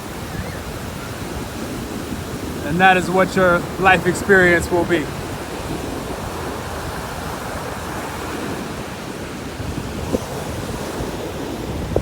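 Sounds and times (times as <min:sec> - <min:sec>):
ocean surf breaking: 0:00.0 - 0:12.0
wind rumbling on microphone: 0:00.0 - 0:12.0.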